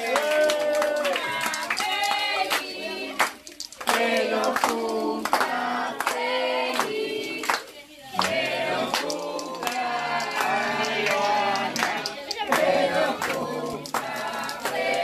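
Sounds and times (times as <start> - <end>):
group singing: 0.0 - 15.0
hands clapping: 0.0 - 15.0.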